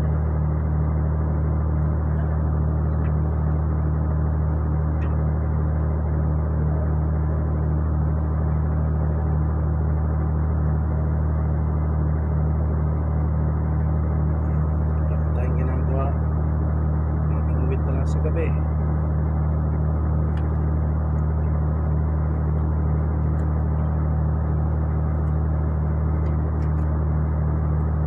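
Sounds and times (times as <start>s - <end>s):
ship engine droning: 0.0s - 28.0s.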